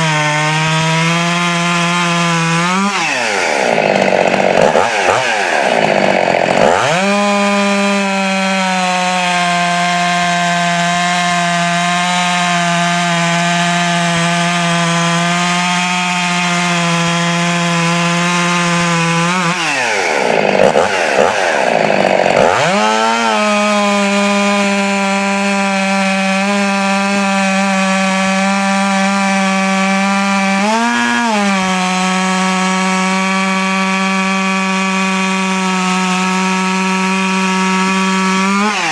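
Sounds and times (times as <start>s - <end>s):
chainsaw cutting wood: 0.0s - 38.9s
chainsaw running at high revs: 0.0s - 38.9s.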